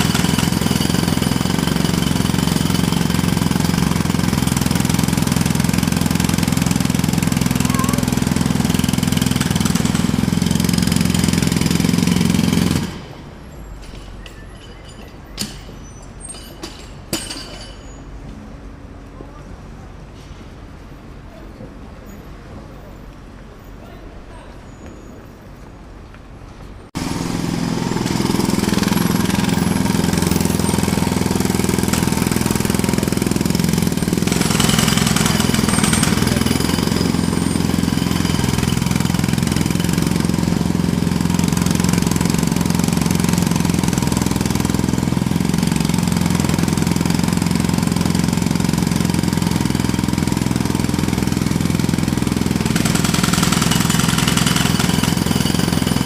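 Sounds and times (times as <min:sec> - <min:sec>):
jackhammer hammering: 0:00.0 - 0:13.3, 0:14.3 - 0:17.9, 0:27.0 - 0:56.0.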